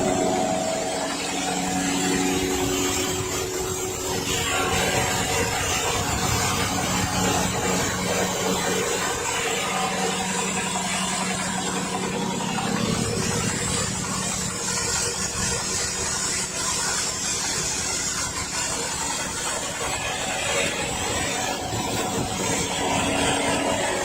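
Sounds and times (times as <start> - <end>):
corn sheller rattling hiss: 0.0 - 24.0
engine hum: 0.0 - 24.0.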